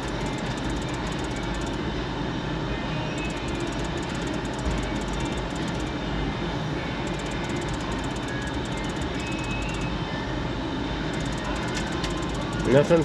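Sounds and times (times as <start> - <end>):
faint slot machine tones: 0.0 - 2.0, 2.8 - 13.0.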